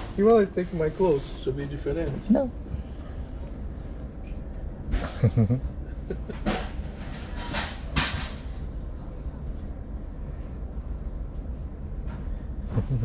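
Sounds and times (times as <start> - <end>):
train carriage hum: 0.0 - 13.0.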